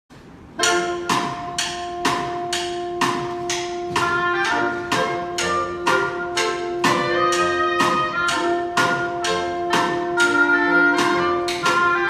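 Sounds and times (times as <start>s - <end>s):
instrumental music with percussive beat: 0.5s - 12.0s.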